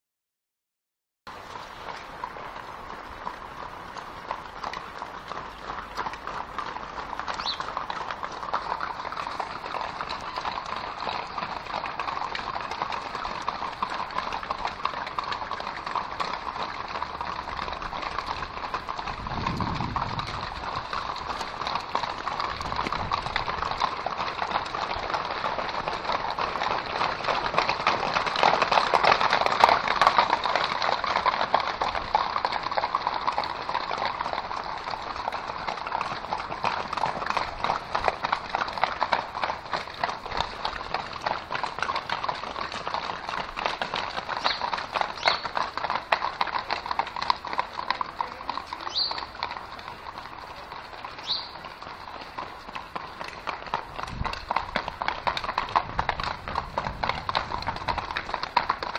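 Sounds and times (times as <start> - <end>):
horse hoofbeats on wet tarmac: 1.3 - 58.9.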